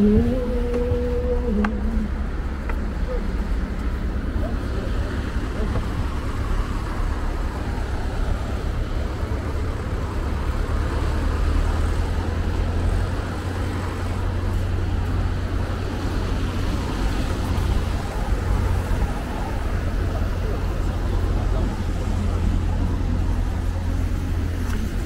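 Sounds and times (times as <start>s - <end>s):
city road traffic rumble: 0.0s - 25.0s.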